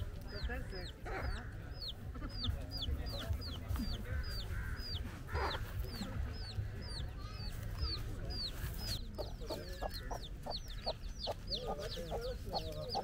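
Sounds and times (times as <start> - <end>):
chicks peeping: 0.0 - 13.0
hen clucking: 0.4 - 13.0.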